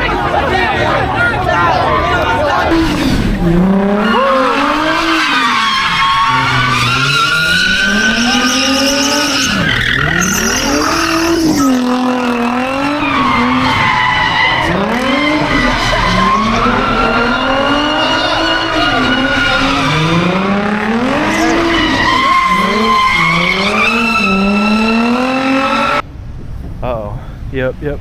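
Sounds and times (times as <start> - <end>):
tyres skidding and squealing: 0.0 - 26.1
car engine revving: 1.8 - 26.0.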